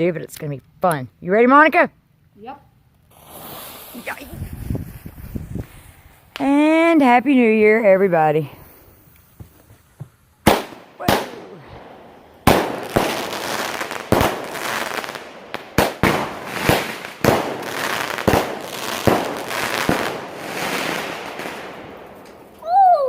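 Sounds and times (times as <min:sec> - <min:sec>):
hissing crackle: 0:02.9 - 0:22.7
firework bangs: 0:03.1 - 0:07.8, 0:08.6 - 0:22.6.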